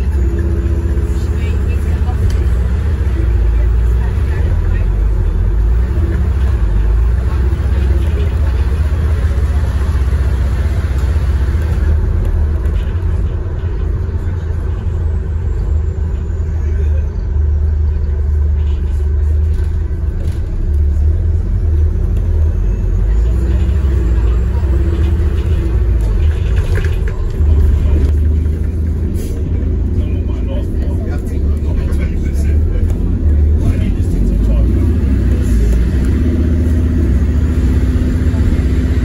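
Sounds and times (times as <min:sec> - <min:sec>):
bus engine low rumble: 0:00.0 - 0:39.0.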